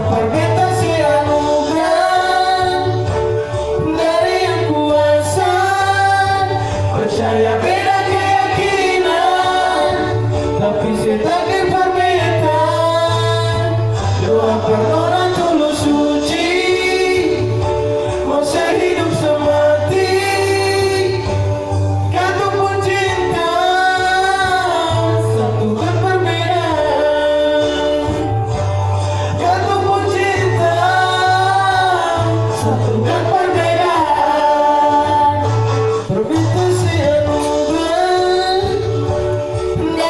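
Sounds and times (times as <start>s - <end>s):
backing music with bass: 0.0s - 40.0s
voices singing: 0.0s - 40.0s.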